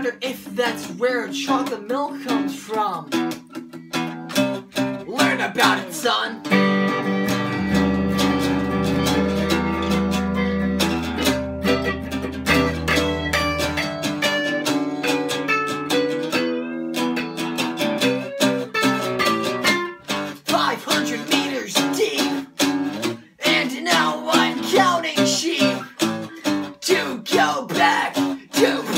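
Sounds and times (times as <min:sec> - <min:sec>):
guitars playing: 0:00.0 - 0:28.9.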